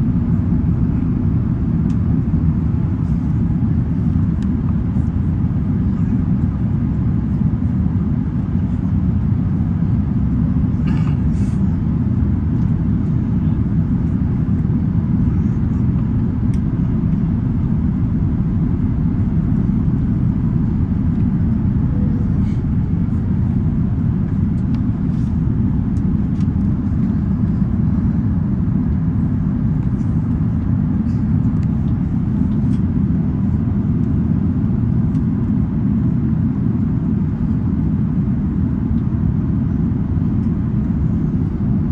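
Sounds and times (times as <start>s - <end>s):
airplane cabin rumble: 0.0s - 41.9s.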